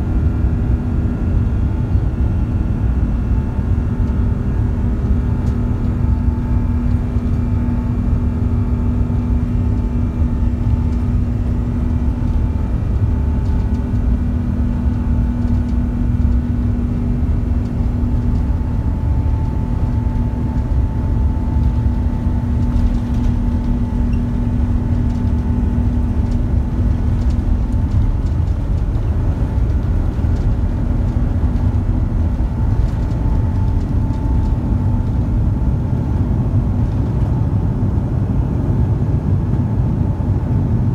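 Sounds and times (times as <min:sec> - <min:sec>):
aircraft engines rumbling: 0:00.0 - 0:40.9
constant hum: 0:00.0 - 0:40.9.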